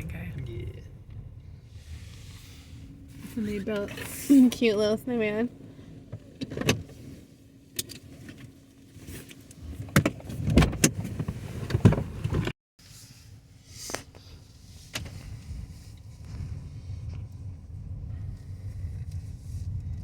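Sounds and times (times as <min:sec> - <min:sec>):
car interior low hum: 0:00.0 - 0:20.0.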